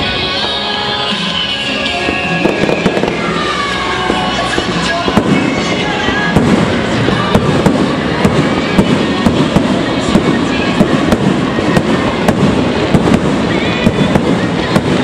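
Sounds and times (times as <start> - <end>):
crackling rumble: 1.9 - 15.0
firework shells bursting: 2.0 - 15.0.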